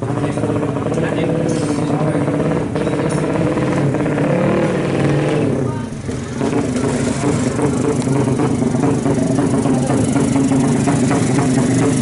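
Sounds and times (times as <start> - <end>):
motorcycle engine idling: 0.0 - 4.1, 5.2 - 12.0.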